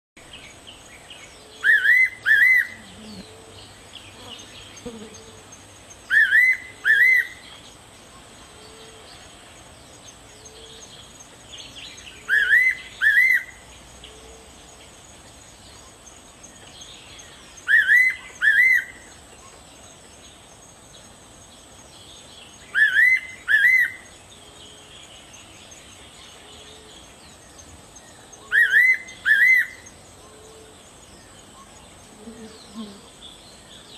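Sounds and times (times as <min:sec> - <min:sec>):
faint bird chirps: 0:00.2 - 0:33.9.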